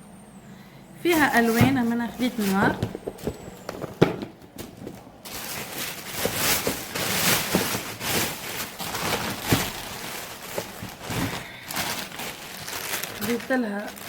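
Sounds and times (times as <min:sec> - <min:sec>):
plastic bag rustling and crinkling: 0:01.1 - 0:14.0.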